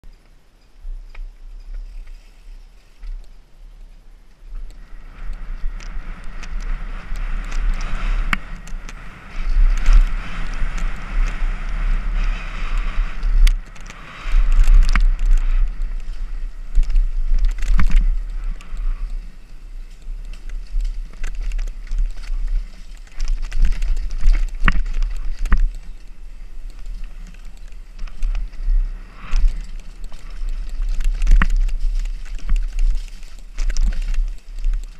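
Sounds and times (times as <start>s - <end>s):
tyre noise on dirt: 0.0s - 34.9s
wind buffeting microphone: 0.7s - 34.9s
bike knocks and rattles: 5.4s - 34.9s.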